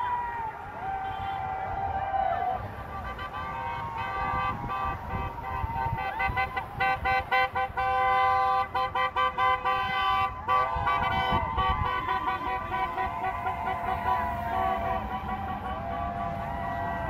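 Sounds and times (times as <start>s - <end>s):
car horns honking: 0.0s - 1.6s, 2.6s - 17.0s
rumble of cars driving by: 0.0s - 17.0s.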